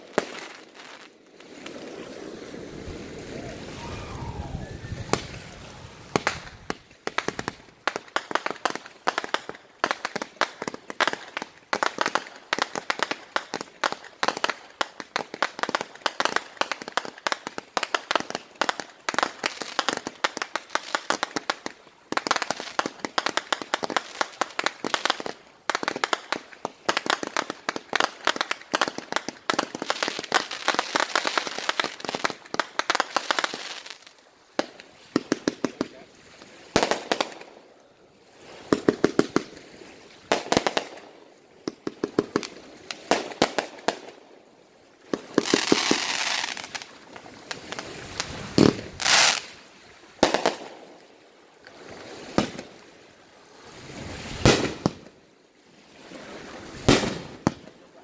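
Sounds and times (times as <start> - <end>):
fireworks popping and crackling: 0.0 - 36.1, 36.7 - 37.6, 38.4 - 39.6, 40.2 - 44.2, 45.0 - 49.6, 50.2 - 51.1, 51.8 - 52.8, 54.0 - 55.2, 56.8 - 58.0.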